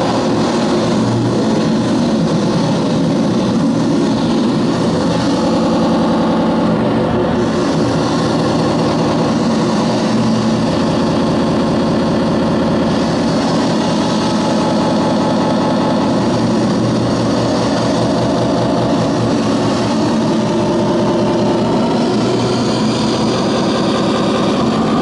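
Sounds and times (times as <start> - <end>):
harsh distorted noise music: 0.0 - 25.0.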